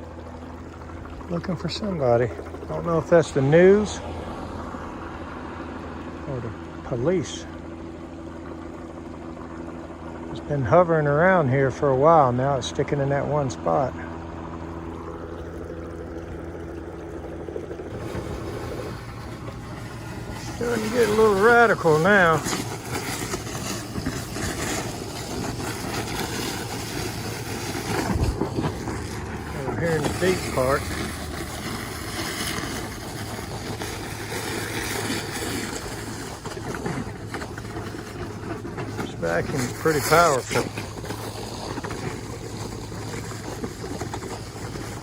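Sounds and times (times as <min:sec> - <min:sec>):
cleaning machine humming: 0:00.0 - 0:45.0
watery rushing: 0:00.0 - 0:45.0.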